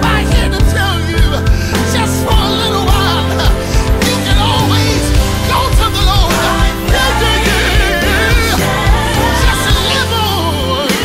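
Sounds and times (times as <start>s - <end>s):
bass and band: 0.0s - 11.0s
gospel lead voice singing: 0.0s - 11.0s.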